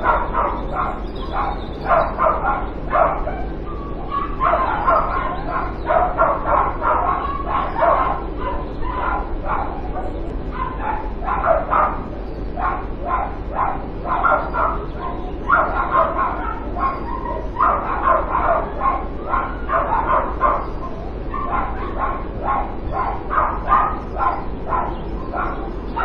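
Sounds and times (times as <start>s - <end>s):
dogs barking: 0.0s - 26.0s
steady low hum: 0.0s - 26.0s.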